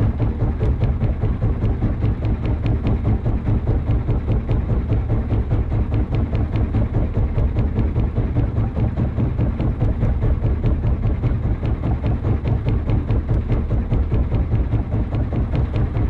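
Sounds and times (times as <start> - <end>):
heavy bass: 0.0 - 16.0.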